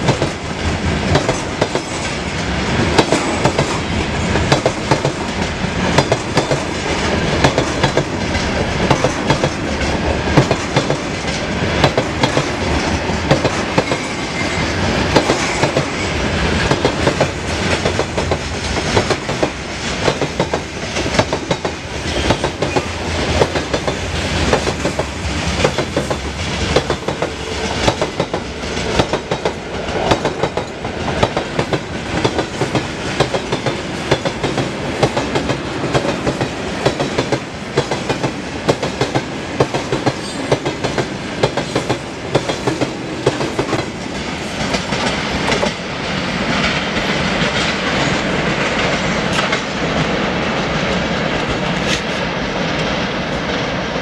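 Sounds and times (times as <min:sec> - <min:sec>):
train wheels clickety-clack: 0:00.0 - 0:53.7.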